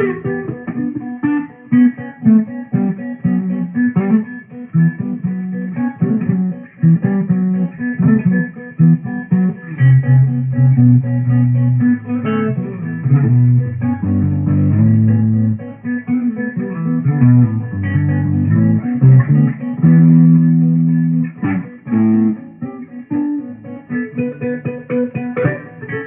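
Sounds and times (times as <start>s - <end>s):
solo guitar plucked notes: 0.0s - 26.0s.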